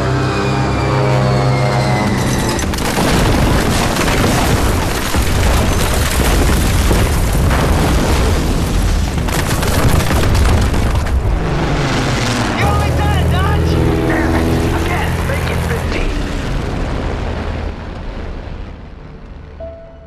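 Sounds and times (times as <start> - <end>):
bomb explosions rumbling: 2.6 - 19.6.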